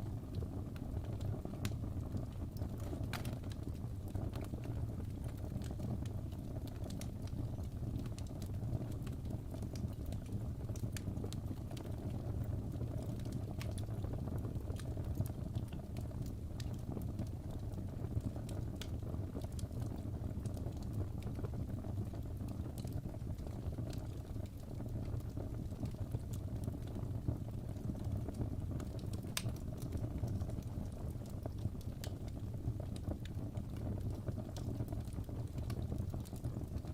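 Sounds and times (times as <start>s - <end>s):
burning logs crackling and popping: 0.0s - 36.9s
fire flames rumbling: 0.0s - 36.9s.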